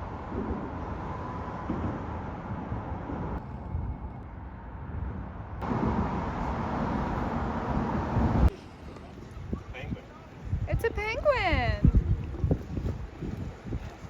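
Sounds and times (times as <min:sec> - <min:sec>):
road traffic noise: 0:00.0 - 0:11.8
wind rumbling on microphone: 0:00.0 - 0:14.0.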